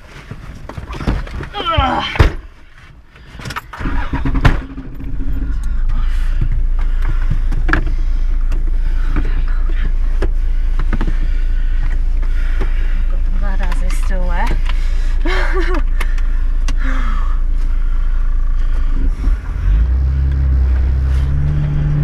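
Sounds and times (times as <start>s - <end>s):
car engine starting and idling: 0.2s - 22.0s.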